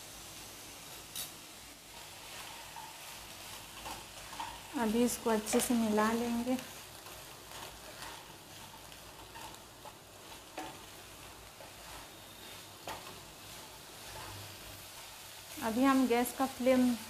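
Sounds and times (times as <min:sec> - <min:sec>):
soft steady sizzle: 0:00.0 - 0:17.0
spatula scraping vegetables: 0:01.1 - 0:17.0.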